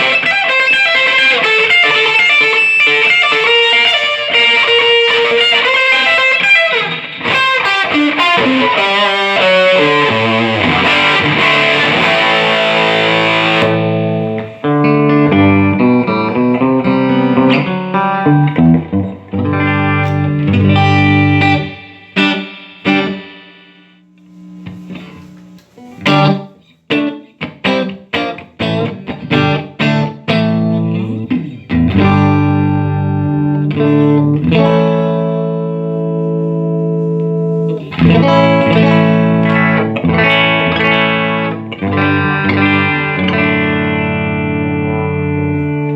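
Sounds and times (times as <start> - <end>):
electric guitar playing: 0.0 - 45.9.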